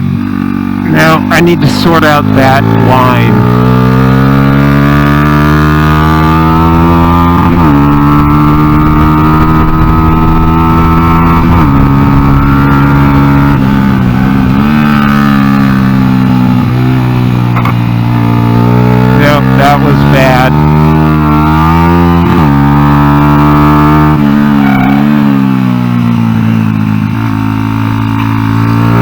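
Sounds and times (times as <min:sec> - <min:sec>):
motorbike engine revving: 0:00.0 - 0:29.0
gear upshifts: 0:00.8 - 0:29.0.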